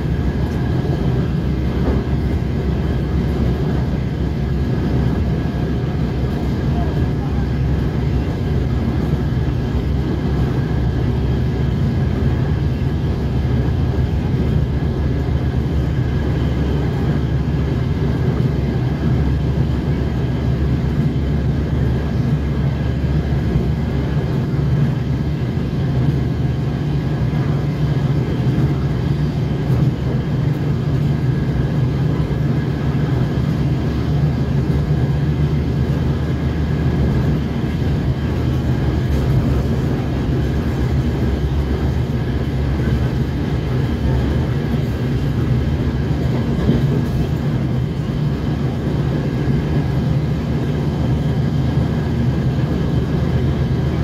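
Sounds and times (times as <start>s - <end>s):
diesel engine drone: 0.0s - 54.0s
wheels rumbling on track: 0.0s - 54.0s.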